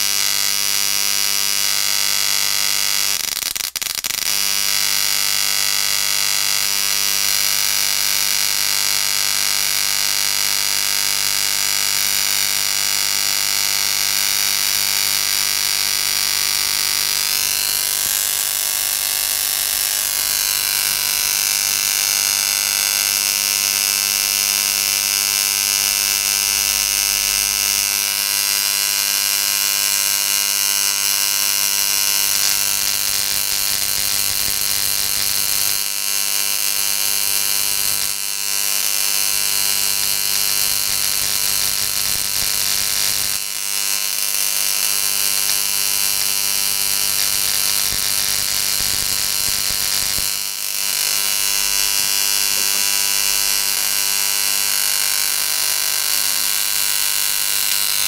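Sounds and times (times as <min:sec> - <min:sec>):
electric arc buzzing: 0:00.0 - 0:58.0.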